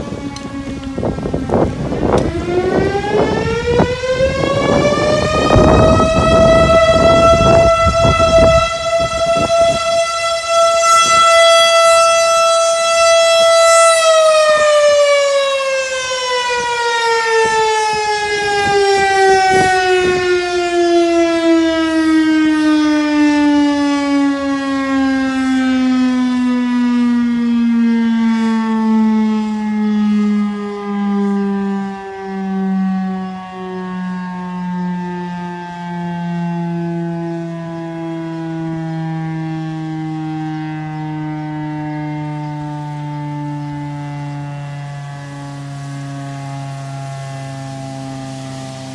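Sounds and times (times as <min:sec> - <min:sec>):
fire siren wailing: 0:00.0 - 0:48.9.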